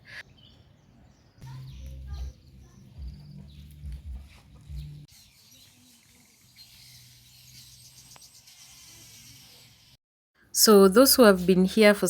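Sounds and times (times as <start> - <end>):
small bird chirps: 0.0 - 10.0.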